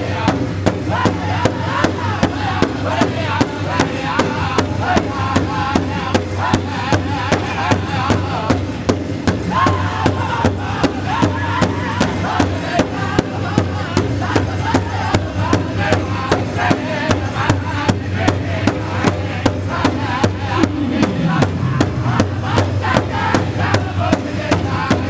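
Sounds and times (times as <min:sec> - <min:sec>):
group singing together: 0:00.0 - 0:25.0
large drum beating in unison: 0:00.0 - 0:25.0.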